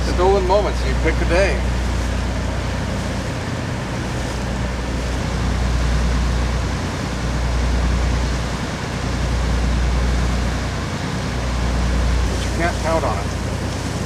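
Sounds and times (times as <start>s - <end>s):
boat engine droning: 0.0s - 14.0s
water against hull: 0.0s - 14.0s.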